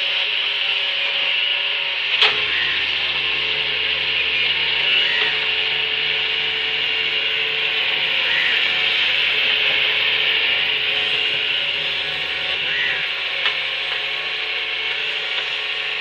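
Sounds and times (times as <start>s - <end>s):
continuous hiss: 0.0s - 16.0s
crane engine hum: 0.0s - 16.0s.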